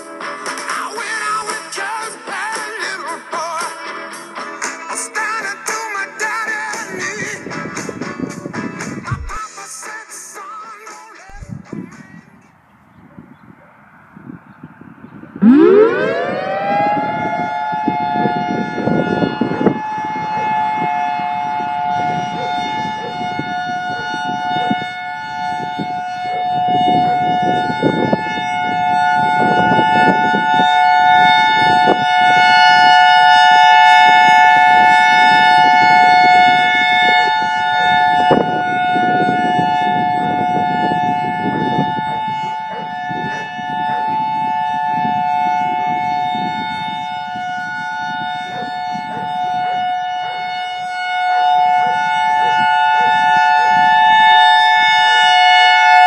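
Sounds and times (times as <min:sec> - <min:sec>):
two-tone warning siren: 0:00.0 - 0:09.5, 0:13.1 - 0:56.0.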